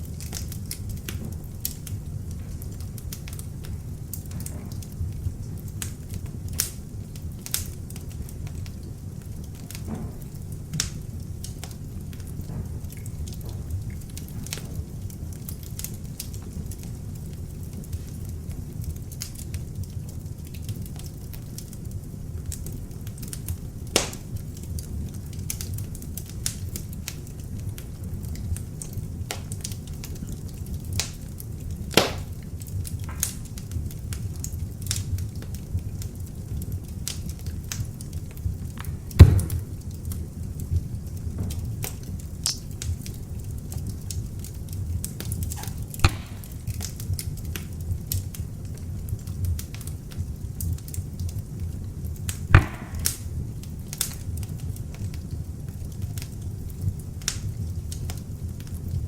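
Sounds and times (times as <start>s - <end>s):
fire crackling: 0.0s - 59.0s
log fire popping: 0.0s - 59.0s
low rumble of flames: 0.0s - 59.0s.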